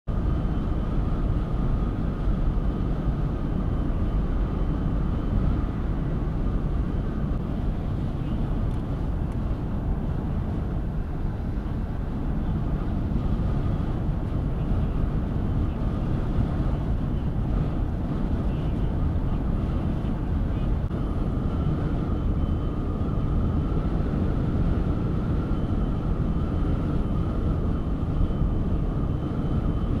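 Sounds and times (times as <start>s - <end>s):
faint steady whine: 0.1s - 30.0s
vehicle driving on highway: 0.1s - 30.0s.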